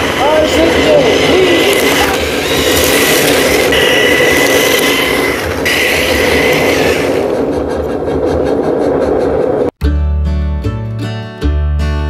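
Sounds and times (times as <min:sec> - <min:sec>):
high whine: 0:00.0 - 0:09.8
train rushing rumble: 0:00.0 - 0:09.8.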